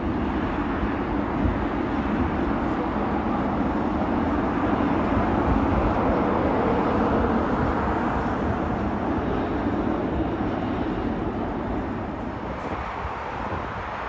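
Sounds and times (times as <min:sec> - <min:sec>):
jet airliner idling: 0:00.0 - 0:14.0
traffic noise: 0:00.0 - 0:14.0.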